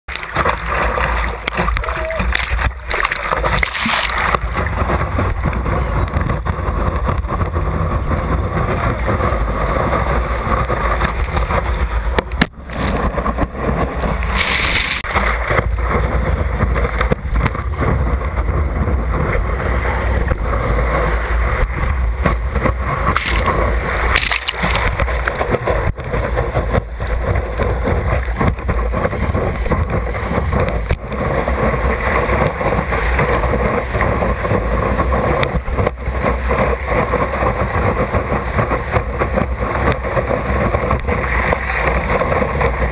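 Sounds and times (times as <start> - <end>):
water rushing: 0.1 - 42.9
water splashing: 0.1 - 42.9
wind buffeting: 1.3 - 41.2.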